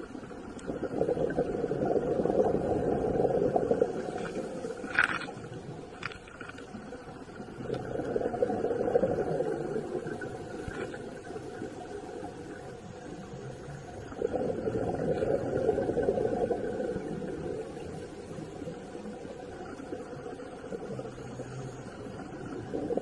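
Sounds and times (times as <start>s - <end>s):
underwater exhaled bubbles: 0.0s - 23.0s.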